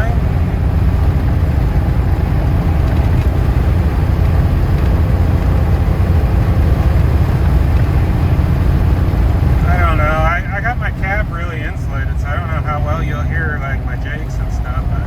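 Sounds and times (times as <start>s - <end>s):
diesel engine drone: 0.0s - 15.0s
road noise: 0.0s - 15.0s.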